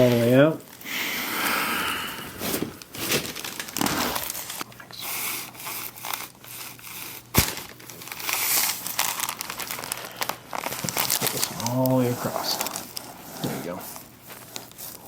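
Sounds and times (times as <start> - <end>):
paper crinkling and rustling: 0.0 - 0.8, 2.4 - 15.0.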